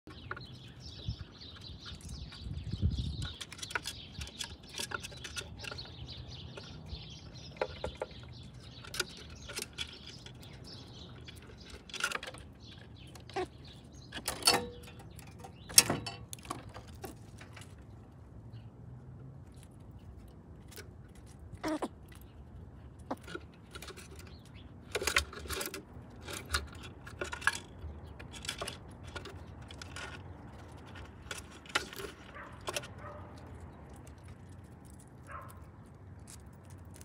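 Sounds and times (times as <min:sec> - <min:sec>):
sharp clicks and scratches: 0:00.1 - 0:18.0, 0:19.5 - 0:37.0
small birds chirping: 0:00.1 - 0:37.0.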